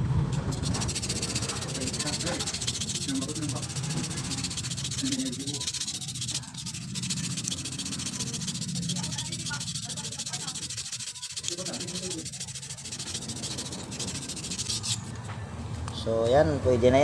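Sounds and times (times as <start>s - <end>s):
sandpaper rubbing on metal shaft: 0.4s - 15.3s.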